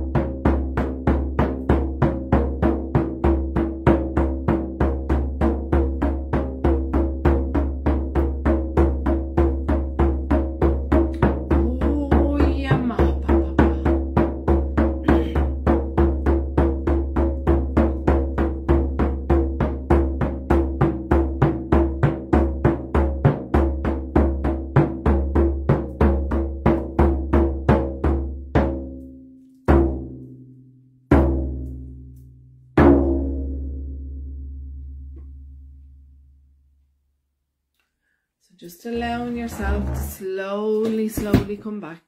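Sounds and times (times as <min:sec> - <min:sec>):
frame drum beats: 0:00.0 - 0:29.1, 0:29.7 - 0:30.4, 0:31.1 - 0:35.5, 0:38.9 - 0:41.7.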